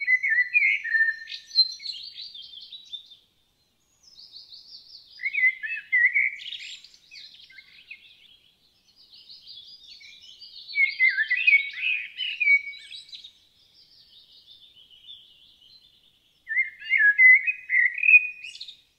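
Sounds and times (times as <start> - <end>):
blackbird singing: 0.0 - 3.3, 3.9 - 18.9.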